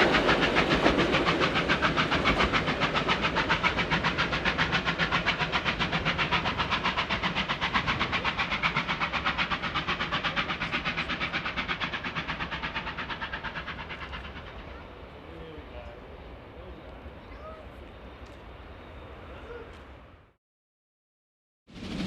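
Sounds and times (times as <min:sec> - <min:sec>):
steam locomotive exhaust beats: 0:00.0 - 0:19.9.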